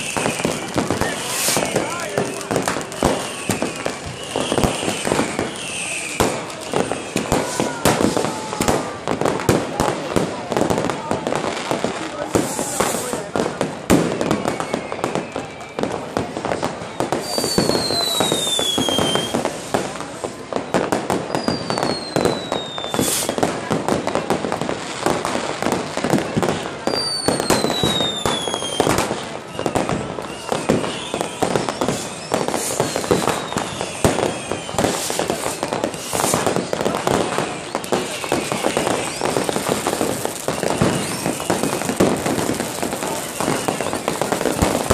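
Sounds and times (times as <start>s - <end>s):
firecrackers crackling and popping: 0.0s - 44.9s
whistling fireworks: 0.0s - 44.9s.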